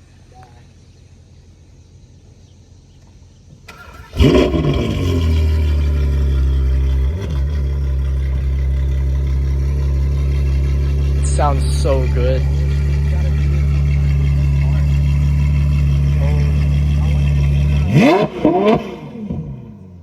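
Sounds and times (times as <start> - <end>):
engine starter turning: 3.6 - 19.7
car engine revving and idling: 3.6 - 20.0.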